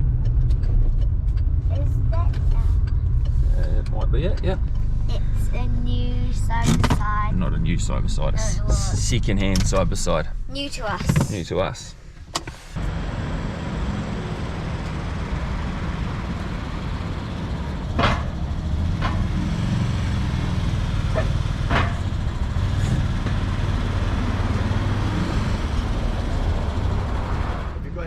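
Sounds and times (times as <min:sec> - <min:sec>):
engine running with low rumble: 0:00.0 - 0:28.0.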